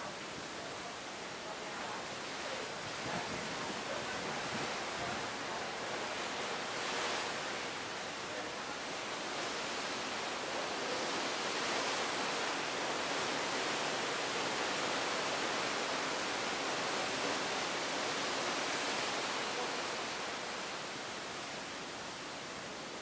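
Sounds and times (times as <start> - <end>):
wind and sea rushing: 0.0 - 23.0.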